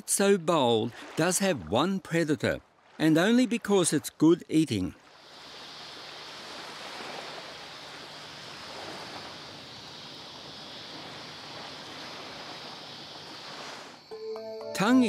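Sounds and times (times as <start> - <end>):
outdoor nature ambience hiss: 0.0 - 15.0.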